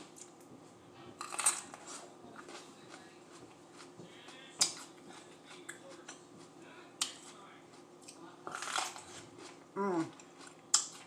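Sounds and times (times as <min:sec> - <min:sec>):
chewing crunchy peppers: 0:00.0 - 0:11.0.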